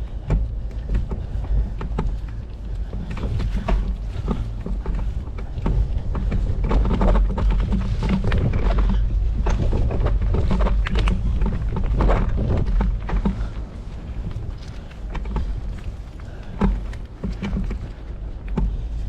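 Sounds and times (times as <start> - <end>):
bicycle tyres rumbling on dirt: 0.0 - 19.0
bike rattling and clicking: 0.0 - 19.0.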